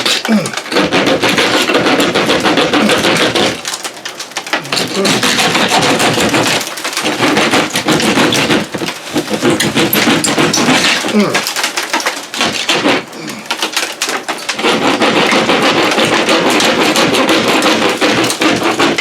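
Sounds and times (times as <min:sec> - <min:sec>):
power tool cutting drywall: 0:00.0 - 0:19.0.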